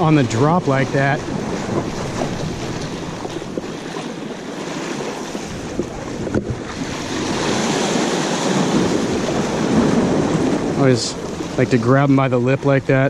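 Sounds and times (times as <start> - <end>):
waves splashing against rocks: 0.0 - 13.0
wind buffeting microphone: 0.0 - 13.0.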